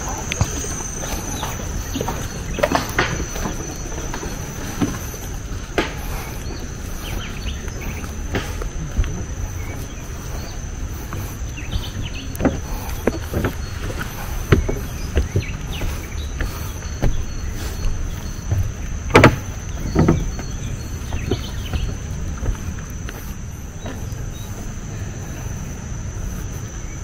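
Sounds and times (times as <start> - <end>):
footsteps on wooden stairs: 0.0 - 27.0
high-pitched insect drone: 0.0 - 27.0.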